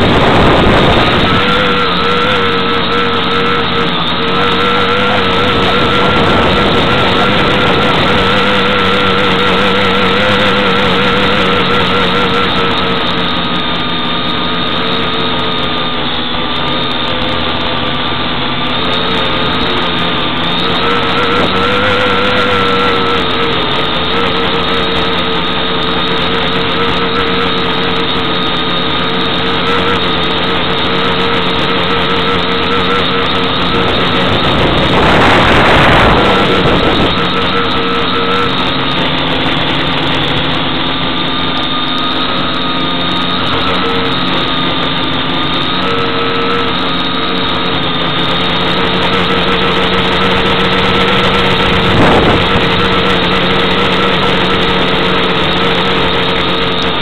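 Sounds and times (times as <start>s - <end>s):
drone motors and propellers: 0.0s - 57.0s
rushing noise: 0.0s - 57.0s.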